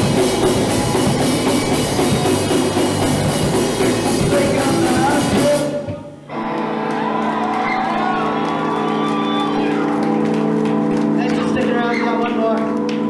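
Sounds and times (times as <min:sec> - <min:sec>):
punk rock band playing live: 0:00.0 - 0:13.0
ringing amplified guitar tone: 0:00.0 - 0:13.0.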